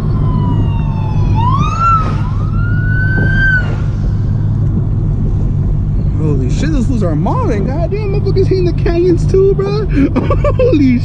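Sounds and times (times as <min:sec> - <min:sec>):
low rumble of camera car: 0:00.0 - 0:11.0.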